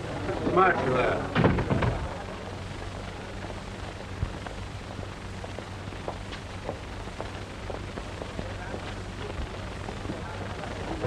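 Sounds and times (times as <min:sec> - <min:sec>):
film soundtrack hiss and crackle: 0:00.0 - 0:11.0
low mains hum: 0:00.0 - 0:11.0.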